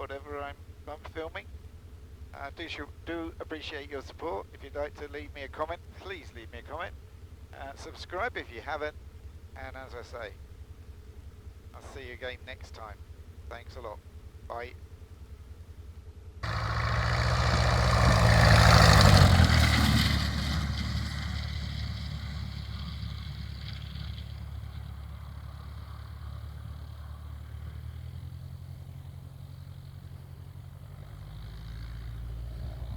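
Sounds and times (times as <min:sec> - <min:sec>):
aircraft engine drone: 0:00.0 - 0:32.9.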